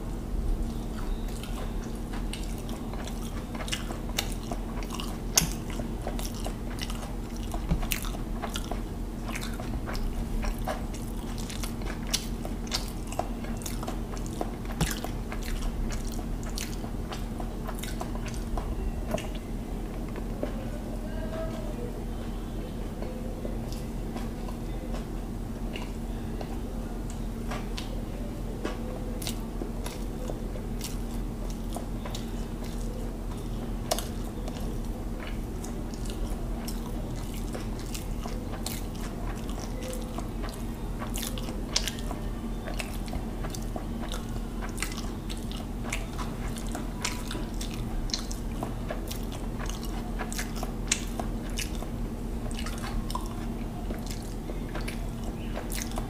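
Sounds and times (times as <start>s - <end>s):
steady low hum: 0.0s - 56.0s
chewing and mouth sounds: 0.6s - 56.0s.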